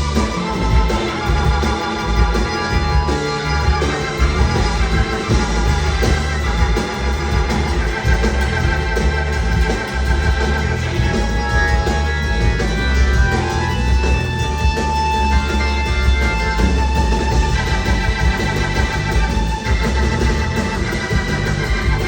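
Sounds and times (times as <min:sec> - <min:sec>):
live band music: 0:00.0 - 0:22.0
organ sustained chords: 0:00.0 - 0:22.0.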